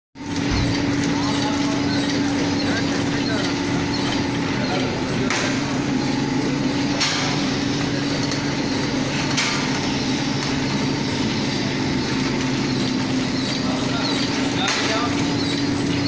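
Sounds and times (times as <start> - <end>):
packing machine humming: 0.2 - 16.0.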